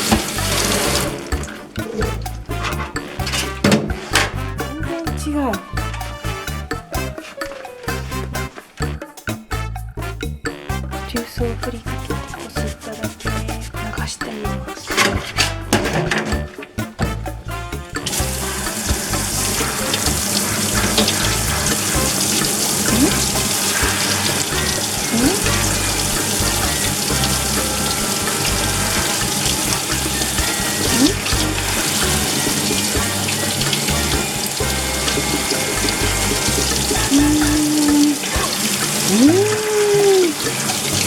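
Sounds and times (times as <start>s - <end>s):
water running from a tap: 0.0s - 4.8s, 5.4s - 10.1s, 11.0s - 41.0s
background music: 0.0s - 41.0s.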